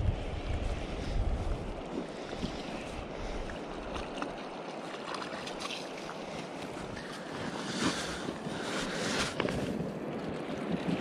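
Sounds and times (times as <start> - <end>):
wind on microphone: 0.0 - 4.4, 6.4 - 11.0
river water flowing: 0.0 - 11.0.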